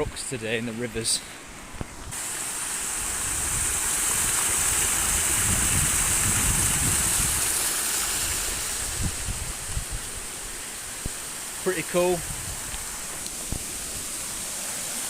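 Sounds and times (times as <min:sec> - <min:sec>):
brook water rushing: 0:00.0 - 0:15.0.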